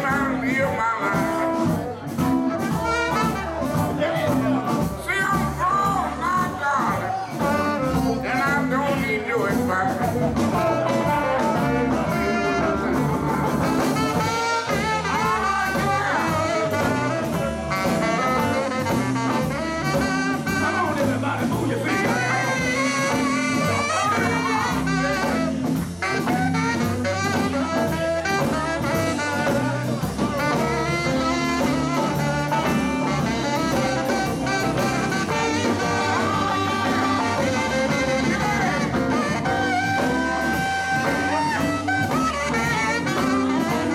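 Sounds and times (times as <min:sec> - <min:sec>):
live blues band playing: 0:00.0 - 0:43.9.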